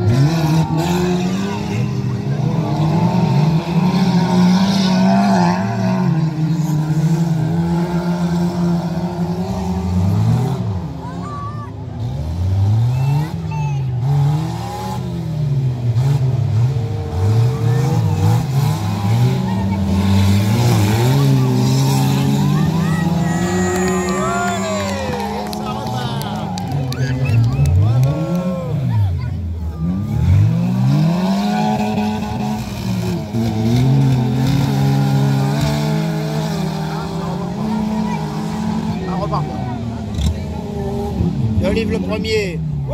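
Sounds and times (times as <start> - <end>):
stock car engines revving: 0.0 - 42.9.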